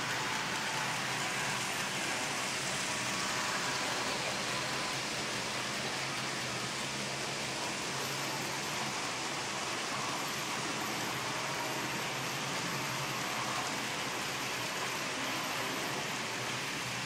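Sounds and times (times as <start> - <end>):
model train wheels rolling on track: 0.0 - 17.0.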